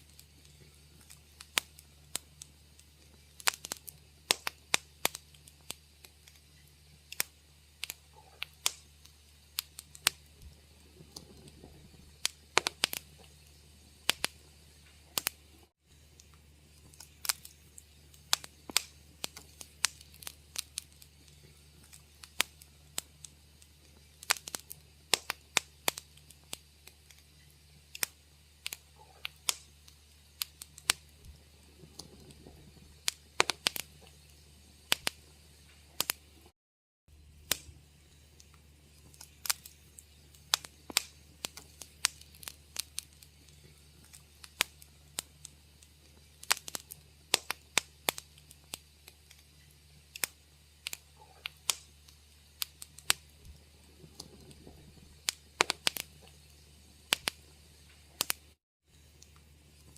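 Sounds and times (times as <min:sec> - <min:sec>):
faint low hum: 0:00.0 - 0:36.5, 0:37.1 - 0:59.9
wood fire crackling: 0:00.0 - 0:36.5, 0:37.1 - 0:59.9.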